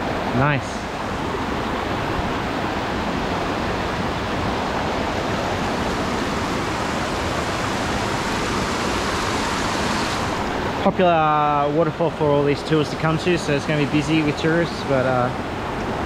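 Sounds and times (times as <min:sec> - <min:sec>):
waterfall and stream rushing: 0:00.0 - 0:16.0.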